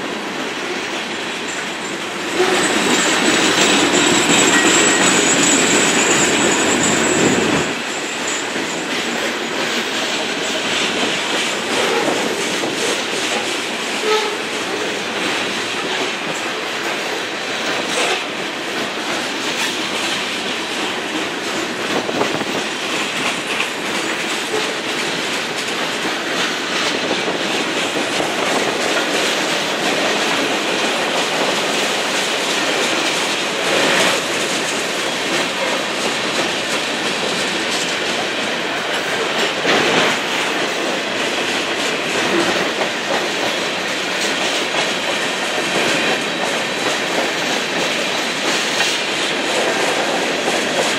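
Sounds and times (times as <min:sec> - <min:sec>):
train car clanks: 0:00.0 - 0:50.9
train wheels clacking over rail joints: 0:00.0 - 0:50.9.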